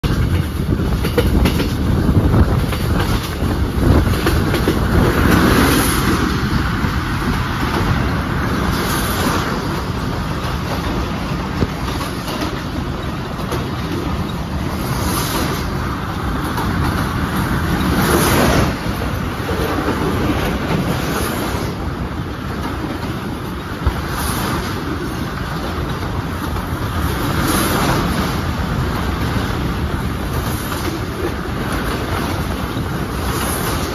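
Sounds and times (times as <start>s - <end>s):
train wheels rumbling on rails: 0.0s - 33.9s
wheels clacking over rail joints: 0.0s - 33.9s.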